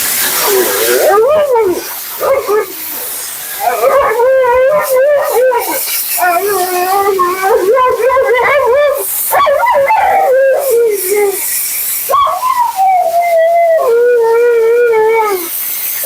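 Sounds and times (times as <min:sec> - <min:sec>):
dog howling: 0:00.3 - 0:11.5, 0:12.1 - 0:15.5.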